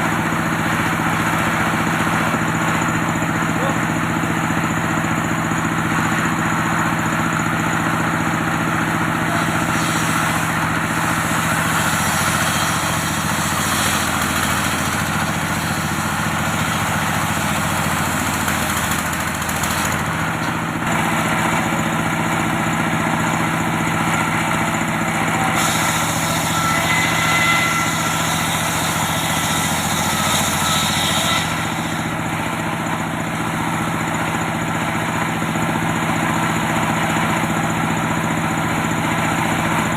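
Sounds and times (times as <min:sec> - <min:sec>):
saw blade whine: 0:00.0 - 0:39.9
sawmill engine humming: 0:00.0 - 0:39.9.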